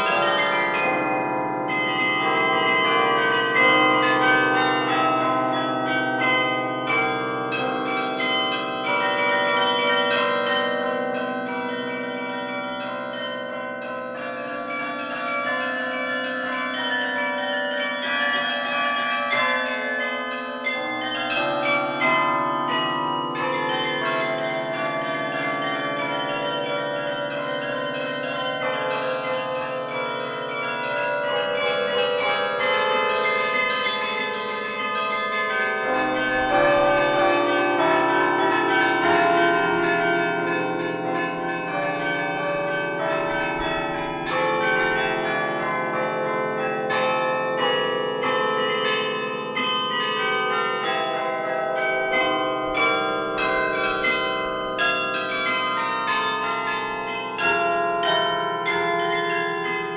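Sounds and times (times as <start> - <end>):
carillon bells playing a tune: 0.0 - 59.9.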